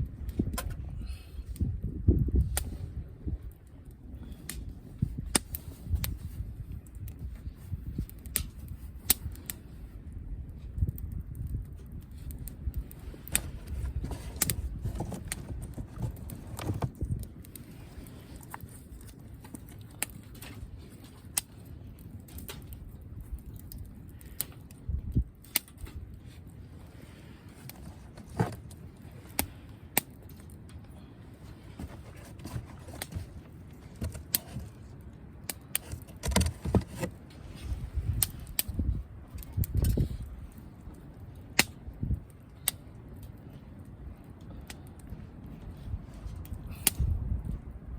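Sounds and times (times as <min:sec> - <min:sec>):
campfire crackling and popping: 0:00.0 - 0:47.8.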